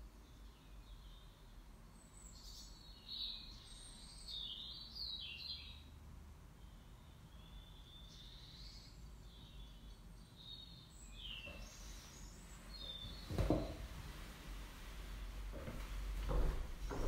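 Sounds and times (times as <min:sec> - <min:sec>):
faint birds chirping: 0:00.0 - 0:17.0
low room hum: 0:00.0 - 0:17.0.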